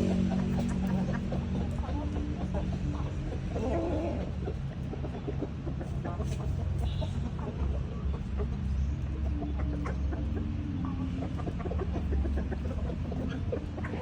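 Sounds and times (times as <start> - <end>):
roosters clucking: 0.0 - 14.0
steady low rumble: 0.0 - 14.0.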